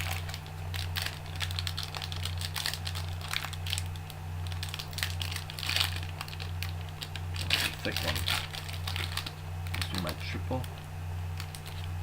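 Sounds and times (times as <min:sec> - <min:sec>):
cards clicking and rustling: 0:00.0 - 0:12.0
steady low hum: 0:00.0 - 0:12.0.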